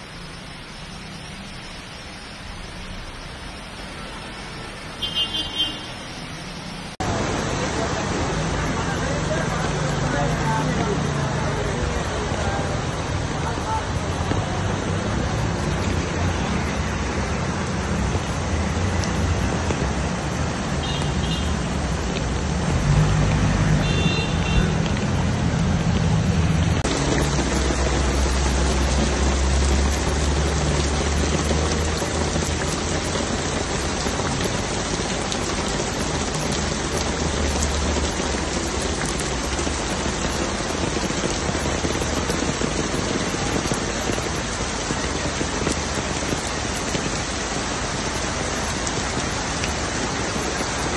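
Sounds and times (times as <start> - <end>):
floodwater running across street: 0.0 - 50.9
heavy rain: 0.0 - 50.9.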